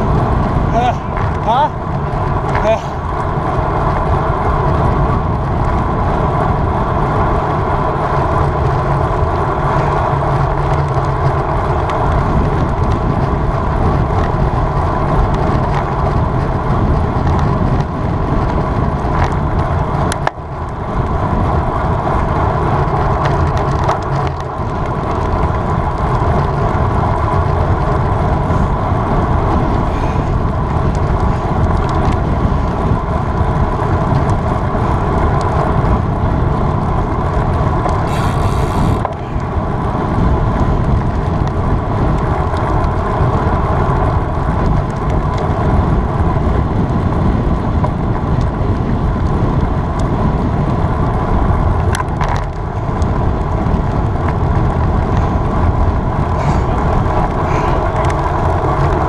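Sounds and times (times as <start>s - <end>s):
bicycle road noise: 0.0s - 59.0s
wind rush: 0.0s - 59.0s.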